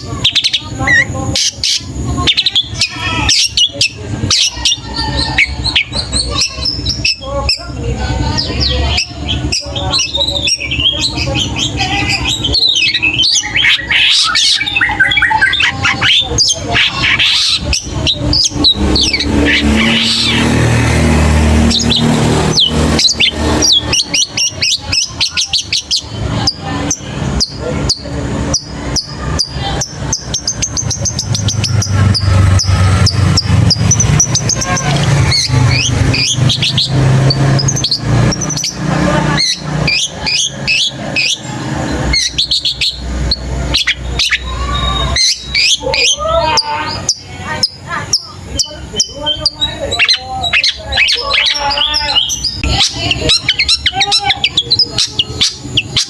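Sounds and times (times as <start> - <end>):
shrike singing: 0.0 - 56.0.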